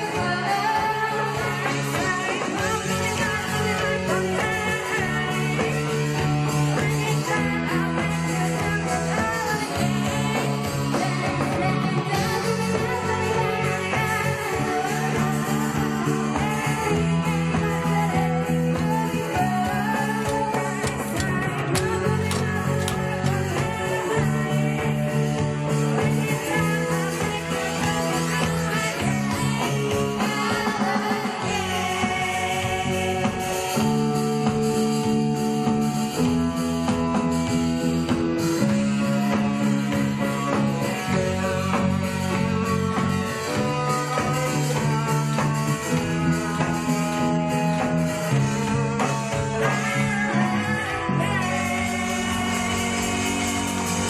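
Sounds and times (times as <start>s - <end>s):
bass: 0.0s - 54.0s
drums: 0.0s - 54.0s
guitar: 0.0s - 54.0s
rock band playing: 0.0s - 54.0s.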